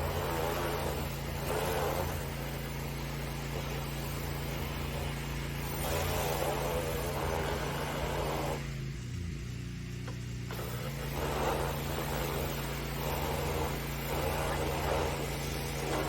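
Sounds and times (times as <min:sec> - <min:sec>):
water spray hissing: 0:00.0 - 0:08.8, 0:10.5 - 0:16.0
pressure washer running: 0:00.0 - 0:16.0.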